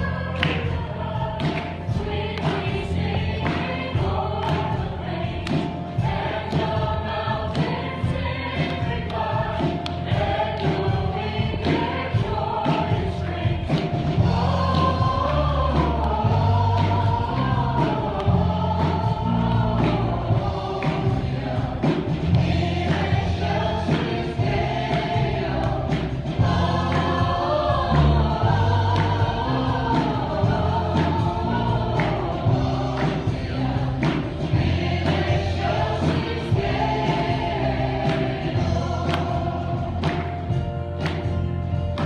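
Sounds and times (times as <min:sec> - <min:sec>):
percussion hits: 0:00.0 - 0:42.0.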